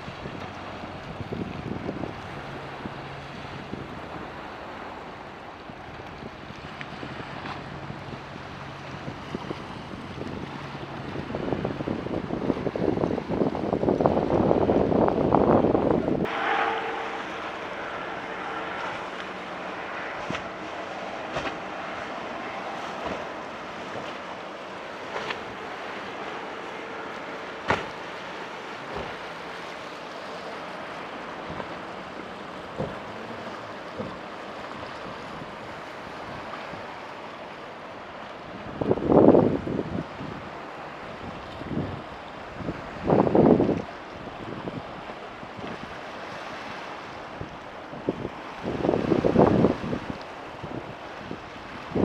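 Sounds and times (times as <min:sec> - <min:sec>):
wind buffeting microphone: 0:00.0 - 0:37.1, 0:38.4 - 0:52.0
boat engines droning: 0:00.0 - 0:52.0
breaking surf: 0:00.0 - 0:52.0
waves rushing: 0:00.0 - 0:52.0.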